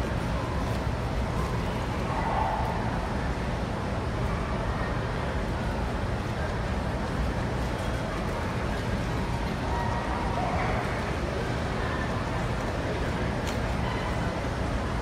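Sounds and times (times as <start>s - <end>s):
distant voices murmuring: 0.0s - 15.0s.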